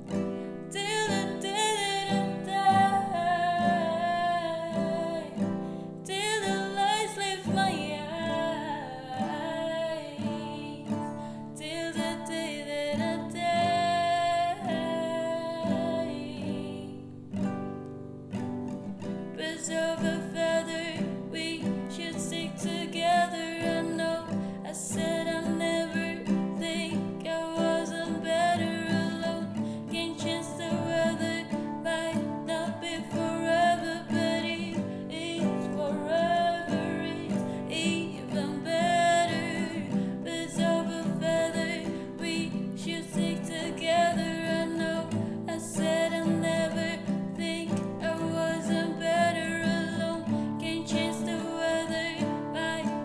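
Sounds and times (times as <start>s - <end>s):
acoustic guitar chords: 0.0s - 53.0s
person singing: 0.7s - 17.1s, 19.4s - 53.0s.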